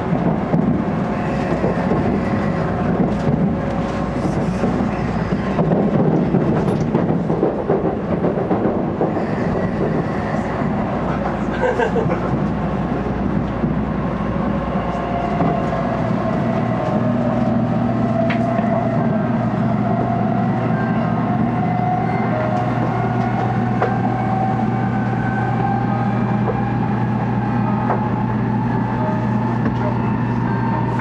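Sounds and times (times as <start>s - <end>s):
train running rumble: 0.0s - 31.0s.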